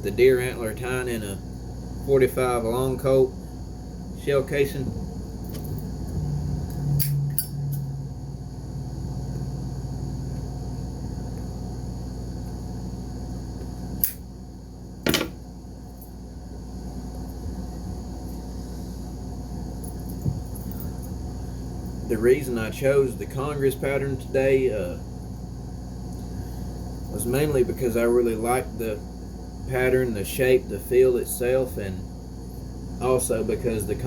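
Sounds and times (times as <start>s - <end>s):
air conditioner hum: 0.0s - 34.0s.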